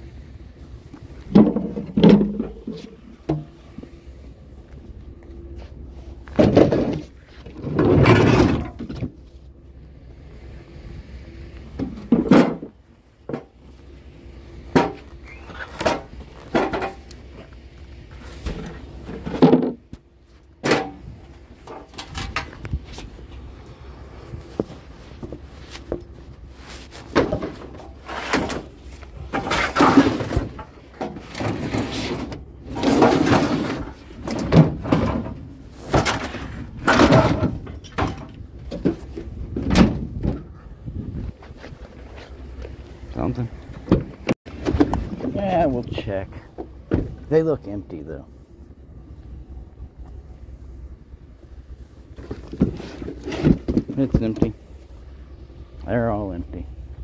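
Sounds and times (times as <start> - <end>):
low steady hum: 0.0 - 57.0
knocks clunks and rattles: 0.8 - 9.4, 11.6 - 13.7, 14.6 - 23.5, 24.2 - 48.2, 51.4 - 57.0.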